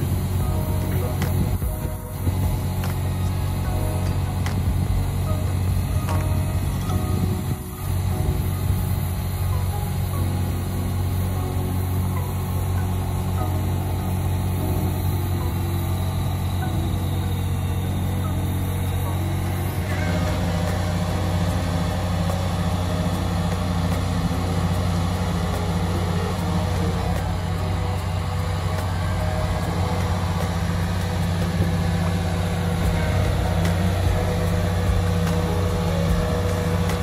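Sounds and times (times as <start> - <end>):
crane diesel engine running: 0.0 - 37.0.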